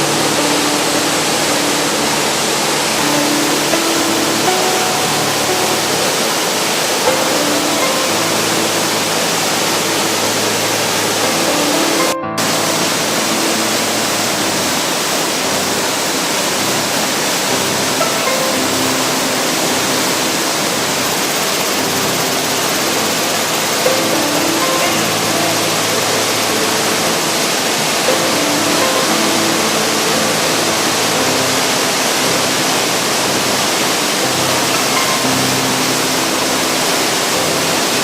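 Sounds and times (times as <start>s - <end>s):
waterfall pouring: 0.0s - 38.0s.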